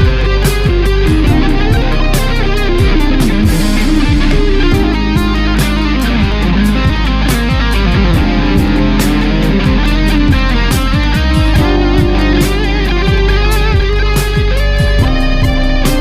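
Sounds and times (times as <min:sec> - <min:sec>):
electric guitar sliding notes: 0:00.0 - 0:16.0
steady drum beat: 0:00.0 - 0:16.0.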